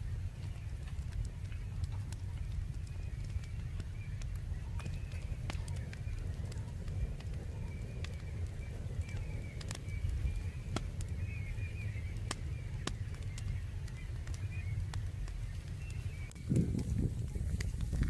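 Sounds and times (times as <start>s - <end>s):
faint bird chirping: 0.0s - 18.0s
wind on microphone: 0.0s - 18.0s.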